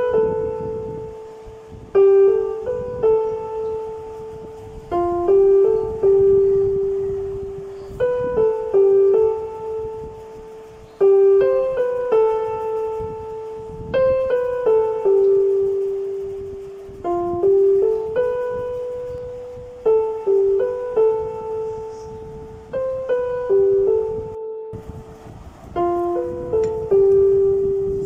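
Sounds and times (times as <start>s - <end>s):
slow piano melody: 0.0s - 28.0s.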